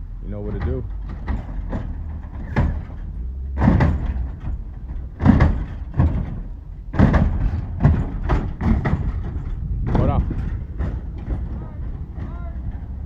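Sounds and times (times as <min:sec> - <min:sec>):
steady low hum: 0:00.0 - 0:13.0
hydraulic suspension clunks: 0:00.3 - 0:13.0.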